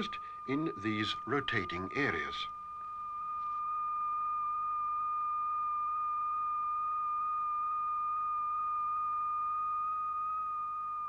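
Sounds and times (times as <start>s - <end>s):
high-pitched sine tone: 0.0s - 11.0s.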